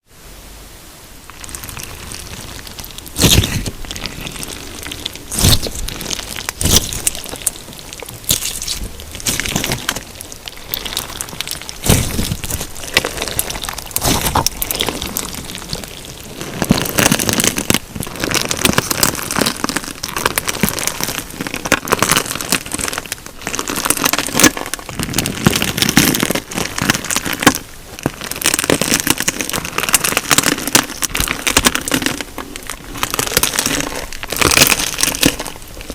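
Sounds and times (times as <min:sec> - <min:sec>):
crunchy slime crackling: 0:01.2 - 0:35.9.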